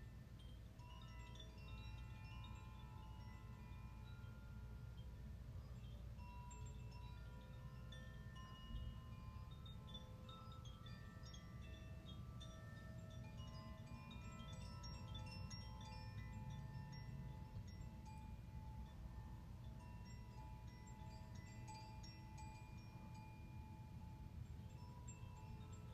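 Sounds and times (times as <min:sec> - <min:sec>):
wind chimes ringing: 0:00.0 - 0:25.9.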